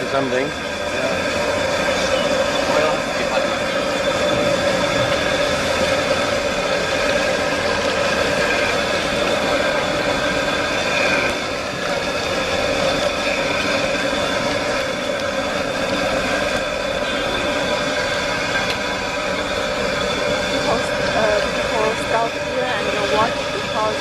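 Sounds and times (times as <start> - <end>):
mechanical drone with hum: 0.0 - 24.0.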